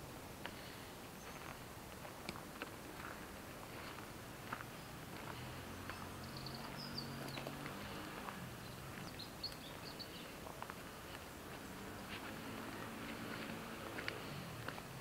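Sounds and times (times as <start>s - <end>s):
low steady hiss: 0.0s - 15.0s
soft footsteps: 1.2s - 15.0s.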